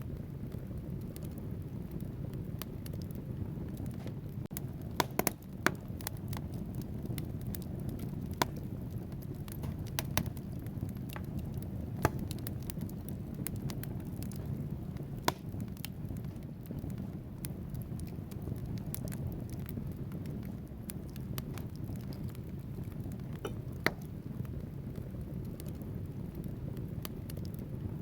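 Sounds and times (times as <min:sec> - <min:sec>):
fire rumbling in a fireplace: 0:00.0 - 0:28.0
logs crackling and popping: 0:00.0 - 0:28.0.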